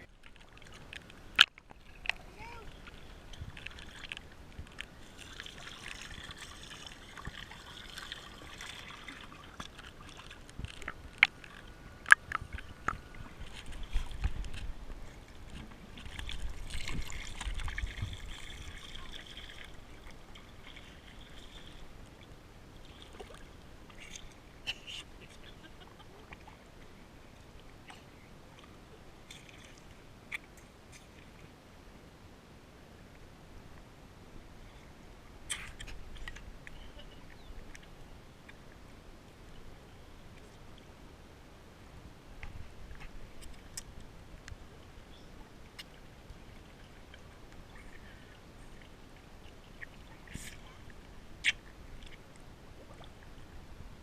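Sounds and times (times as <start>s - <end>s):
water sloshing and trickling: 0.0s - 31.5s, 35.4s - 39.7s, 42.3s - 54.0s.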